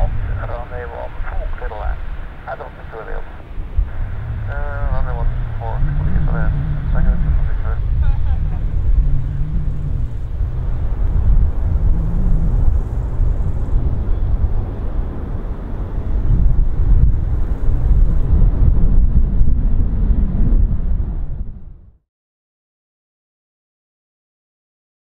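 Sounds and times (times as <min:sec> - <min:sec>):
jet engine rumble with hiss: 0:00.0 - 0:21.4.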